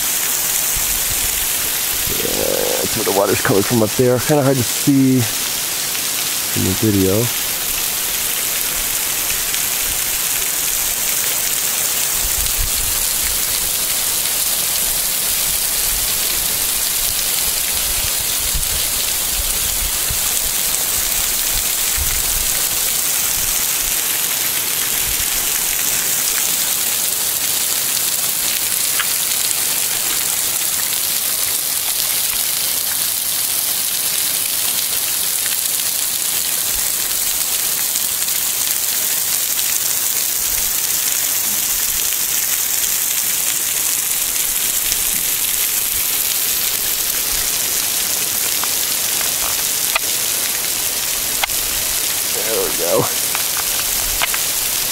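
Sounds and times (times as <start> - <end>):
waterfall splashing onto rocks: 0.0 - 54.9.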